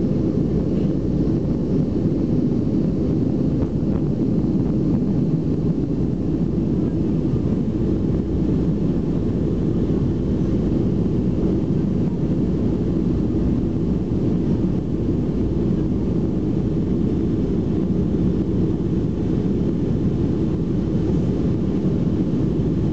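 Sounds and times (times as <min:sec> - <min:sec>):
jet engine cabin noise: 0:00.0 - 0:22.9.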